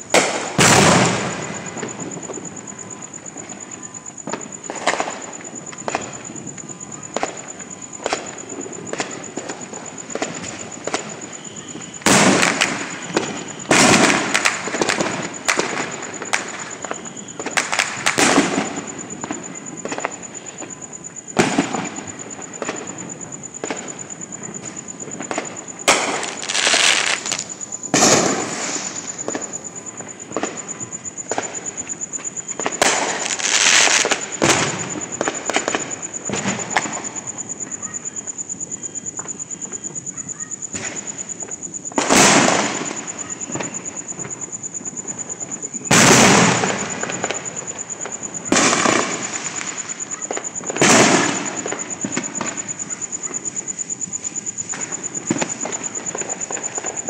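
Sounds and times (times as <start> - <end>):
faint fireworks pops: 0.0 - 57.0
fireworks bangs: 0.0 - 57.0
fireworks crackling: 0.0 - 57.0.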